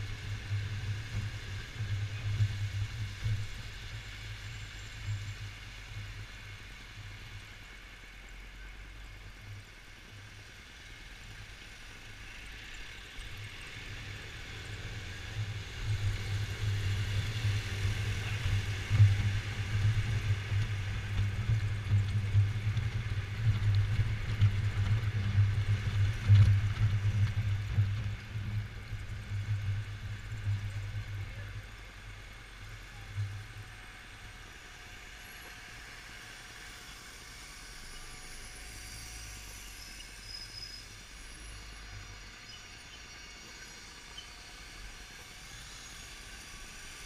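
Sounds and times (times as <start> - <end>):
road noise: 0.0 - 47.0.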